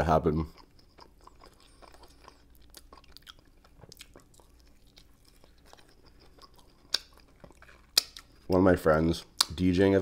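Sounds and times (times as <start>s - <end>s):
chewing with mouth clicks: 0.0s - 9.6s.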